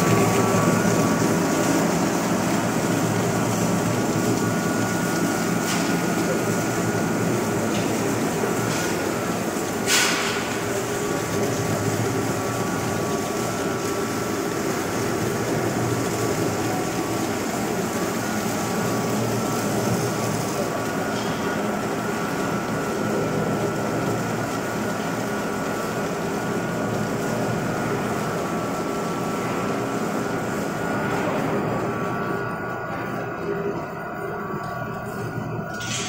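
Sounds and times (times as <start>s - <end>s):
extruder machine droning: 0.0s - 36.0s.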